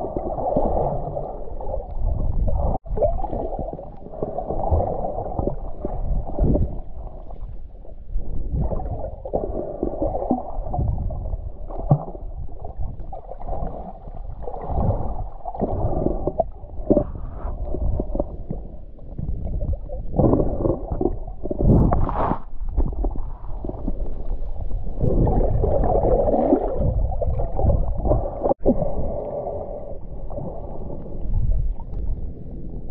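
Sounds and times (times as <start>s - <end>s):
muffled water gurgling and sloshing: 0.0s - 32.9s.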